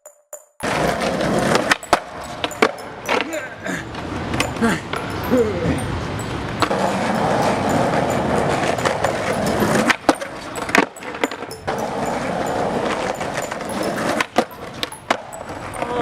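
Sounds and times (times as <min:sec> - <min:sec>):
skateboard clacks: 0:00.6 - 0:16.0
skateboard wheels rolling on concrete: 0:00.6 - 0:16.0.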